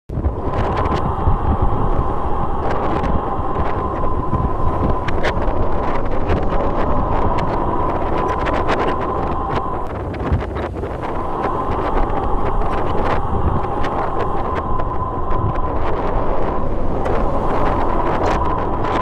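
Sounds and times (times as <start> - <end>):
wind buffeting microphone: 0.1 - 19.0
faint steady hum: 0.2 - 19.0.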